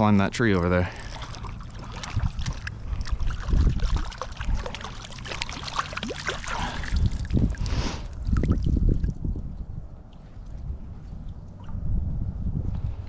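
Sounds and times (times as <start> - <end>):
water splashing and sloshing: 0.0 - 11.8.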